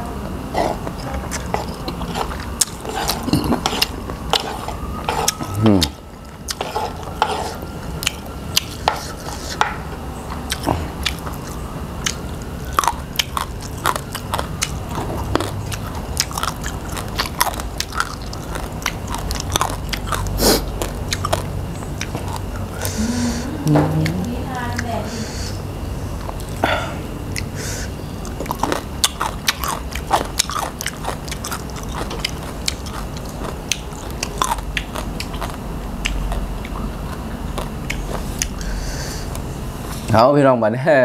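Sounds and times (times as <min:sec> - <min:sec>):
person chewing and crunching: 0:00.4 - 0:24.2, 0:25.8 - 0:40.1.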